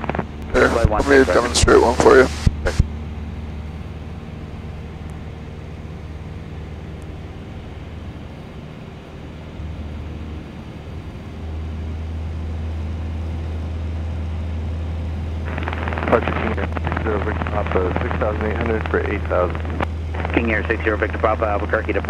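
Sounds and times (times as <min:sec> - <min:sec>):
light airplane engine and propeller drone: 0:00.0 - 0:22.0.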